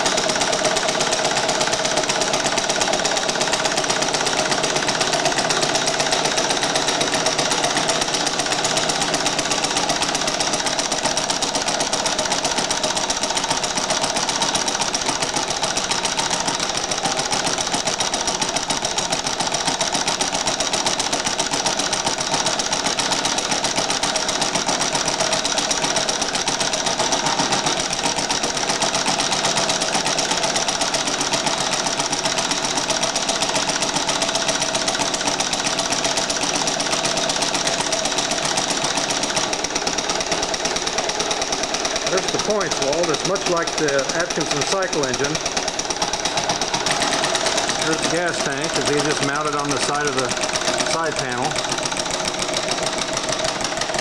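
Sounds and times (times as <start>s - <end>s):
model gas engine running: 0.0s - 54.0s.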